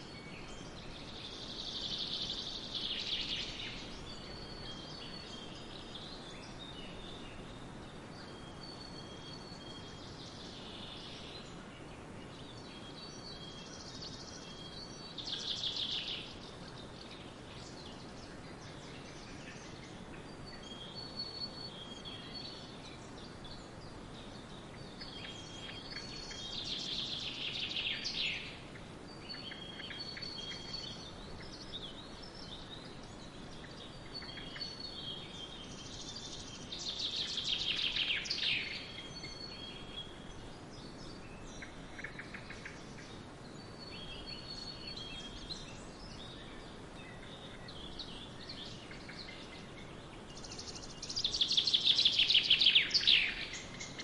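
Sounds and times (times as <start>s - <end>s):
steady background hiss: 0.0s - 54.0s
woodland birds singing: 0.0s - 54.0s.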